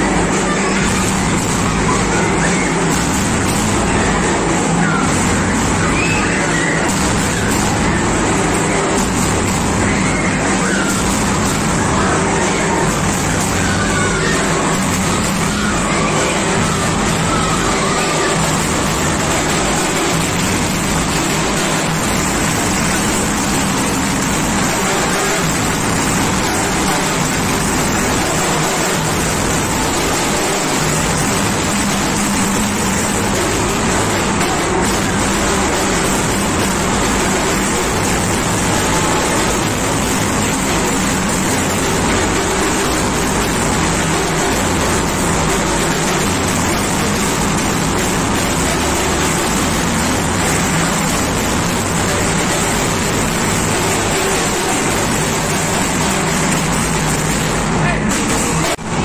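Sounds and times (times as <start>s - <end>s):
drum band beating: 0.0s - 59.0s.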